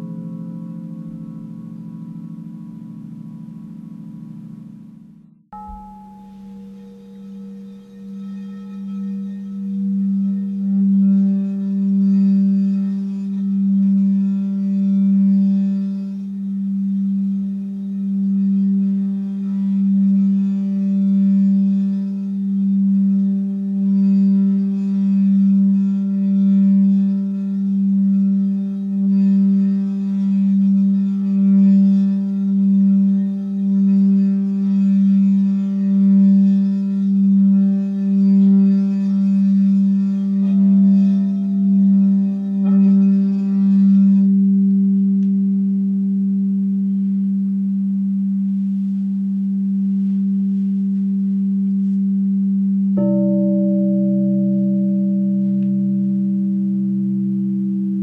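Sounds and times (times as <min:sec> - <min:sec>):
singing bowl higher tone: 0:00.0 - 0:58.0
singing bowl low tone: 0:00.0 - 0:58.0.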